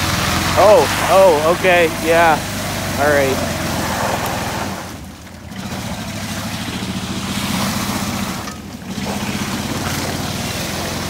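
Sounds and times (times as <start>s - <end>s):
engine revving hard: 0.0s - 11.0s
mud splattering: 0.0s - 11.0s.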